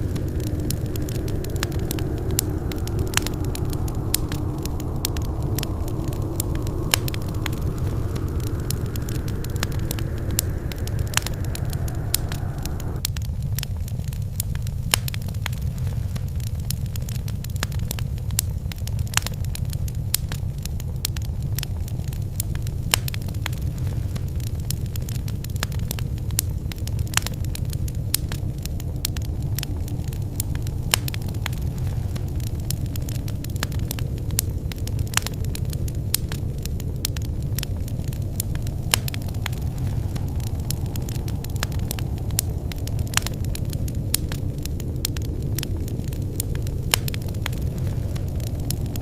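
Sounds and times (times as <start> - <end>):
low fire rumble: 0.0 - 49.0
steady hiss: 0.0 - 49.0
wood fire crackling and popping: 0.0 - 49.0.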